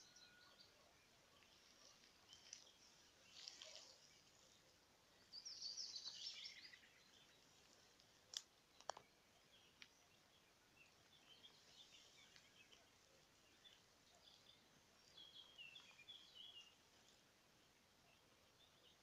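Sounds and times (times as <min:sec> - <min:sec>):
faint songbirds singing: 0:00.0 - 0:19.0.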